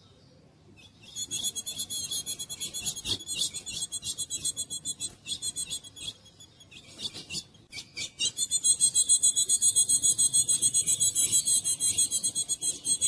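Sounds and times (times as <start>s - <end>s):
bird harsh chattering calls: 0.8s - 13.0s.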